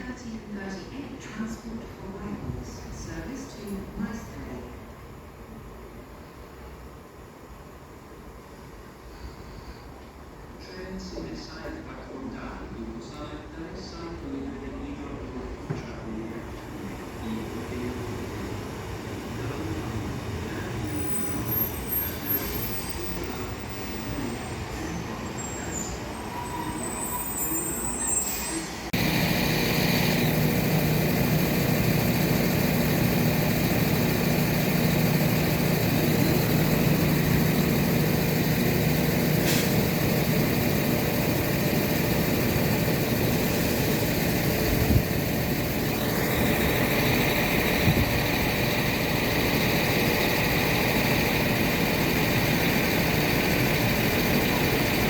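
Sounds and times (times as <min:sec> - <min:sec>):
train engine hum and whine: 0:00.0 - 0:55.0.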